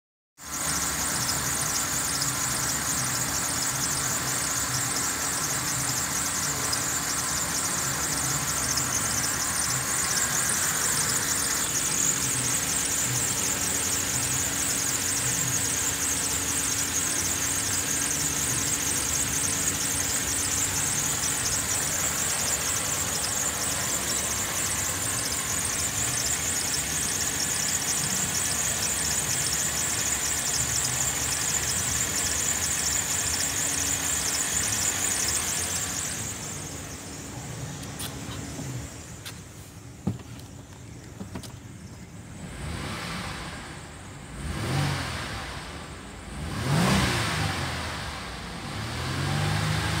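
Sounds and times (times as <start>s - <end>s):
car engine idling: 0.4s - 50.0s
high-pitched hiss: 0.5s - 41.9s.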